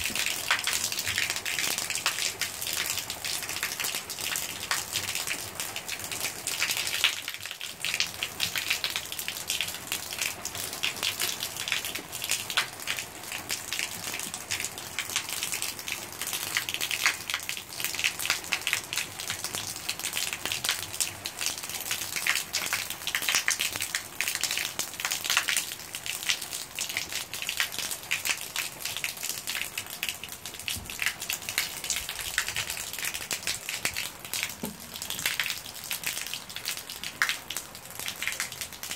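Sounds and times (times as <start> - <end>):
rain hitting wall and floor: 0.0 - 38.9.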